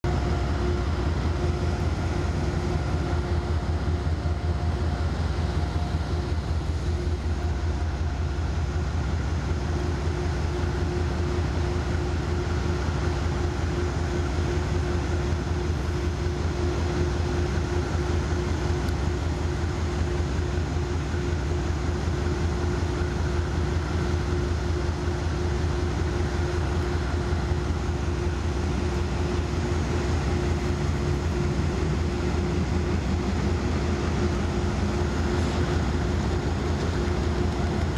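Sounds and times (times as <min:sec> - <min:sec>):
diesel locomotives throbbing drone: 0:00.0 - 0:37.9
steady hum: 0:00.0 - 0:37.9.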